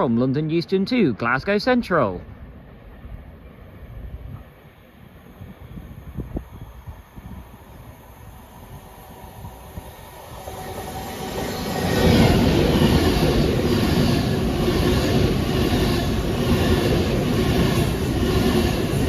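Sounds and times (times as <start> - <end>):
electric train passing at speed: 1.4 - 19.0.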